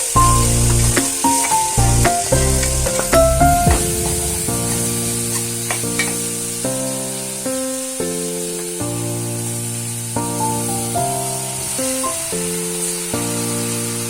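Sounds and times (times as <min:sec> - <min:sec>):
food frying in a pan: 0:00.0 - 0:14.0
instrumental background music: 0:00.0 - 0:14.0.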